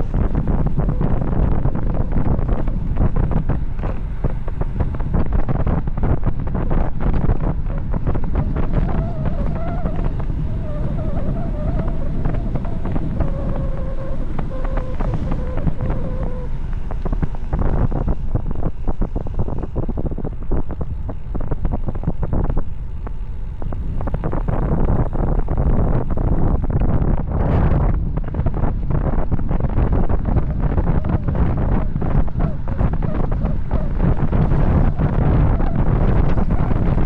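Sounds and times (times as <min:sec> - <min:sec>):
wavering whine: 0:00.0 - 0:37.0
wind buffeting microphone: 0:00.0 - 0:37.0.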